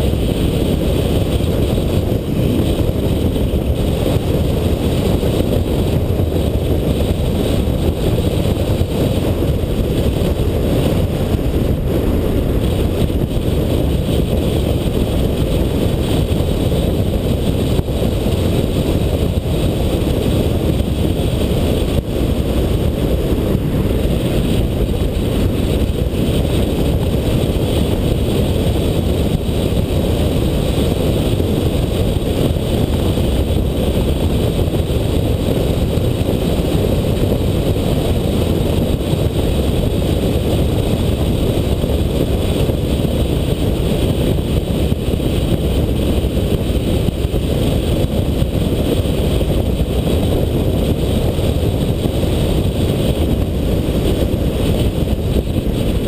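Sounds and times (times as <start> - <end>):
car engine and road rumble: 0.0 - 56.0
wind noise on microphone: 0.0 - 56.0.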